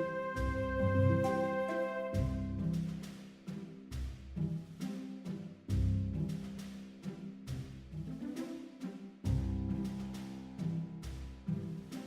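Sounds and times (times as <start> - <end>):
orchestral strings with percussive beat: 0.0 - 12.0.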